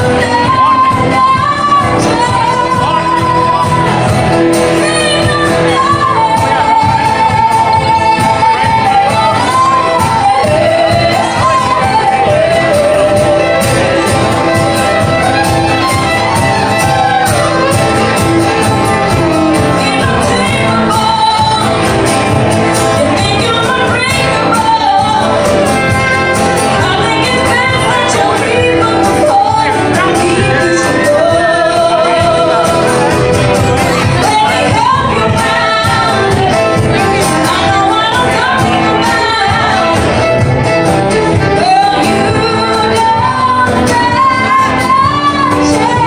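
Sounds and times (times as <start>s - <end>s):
acoustic guitar: 0.0s - 46.0s
fiddle: 0.0s - 46.0s
woman singing: 0.0s - 46.0s.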